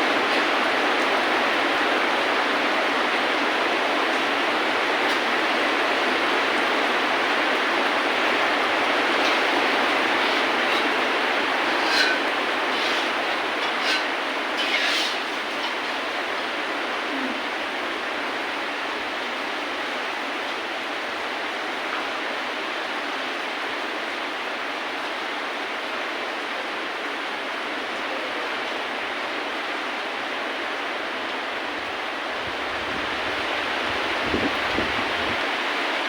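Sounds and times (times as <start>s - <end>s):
heavy rainfall hissing: 0.0s - 36.0s.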